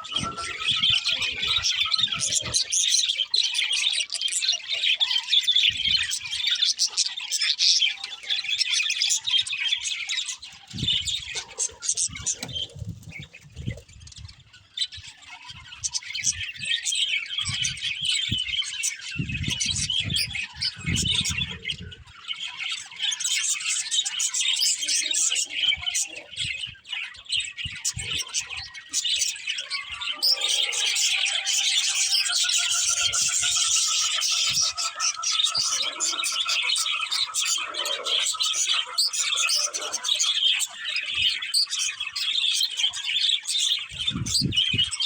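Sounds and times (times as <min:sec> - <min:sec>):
budgerigars chirping: 0:00.0 - 0:13.8, 0:22.4 - 0:45.0.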